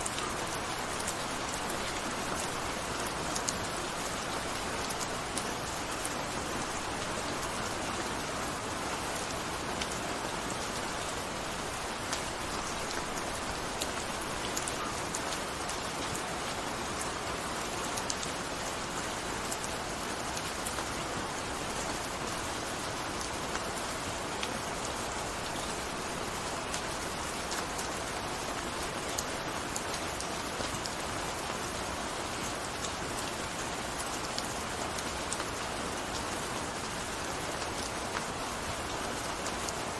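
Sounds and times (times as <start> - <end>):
gentle rain falling: 0.0 - 39.9
raindrops pattering on surface: 0.0 - 39.9.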